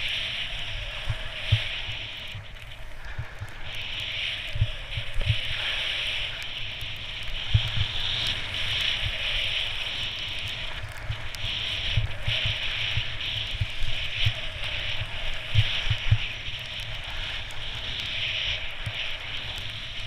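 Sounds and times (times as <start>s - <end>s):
skis scraping over snow: 0.0s - 20.0s
wind buffeting microphone: 0.0s - 20.0s.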